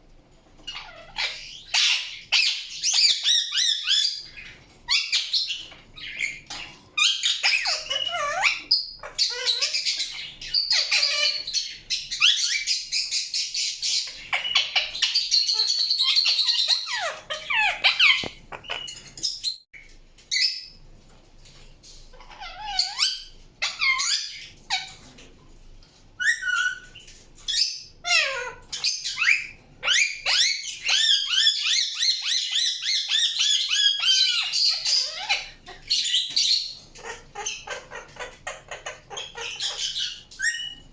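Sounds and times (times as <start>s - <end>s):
parakeet chirping and squawking: 0.5s - 19.6s, 21.9s - 25.3s, 26.2s - 40.9s.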